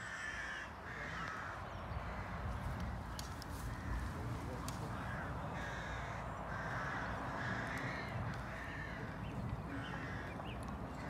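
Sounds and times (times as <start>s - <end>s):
crows cawing: 0.0s - 11.0s
low outdoor rumble: 0.1s - 11.0s.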